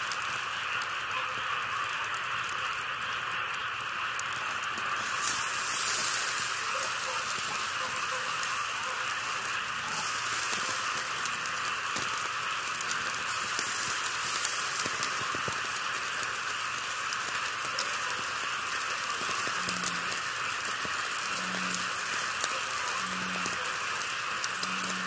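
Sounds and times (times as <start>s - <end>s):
faint crackles and ticks: 0.0s - 25.0s
steady hiss: 0.0s - 25.0s.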